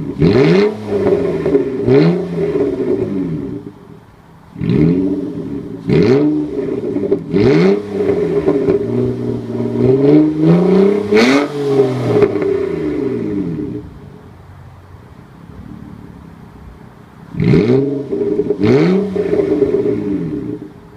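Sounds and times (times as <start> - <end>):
car engine revving: 0.0 - 14.8, 15.4 - 20.9.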